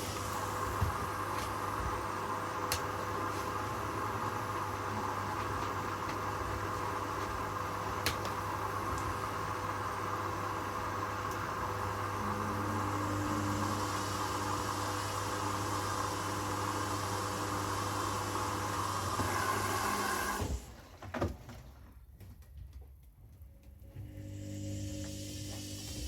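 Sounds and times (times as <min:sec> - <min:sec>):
washing machines humming: 0:00.0 - 0:22.2, 0:23.4 - 0:26.0.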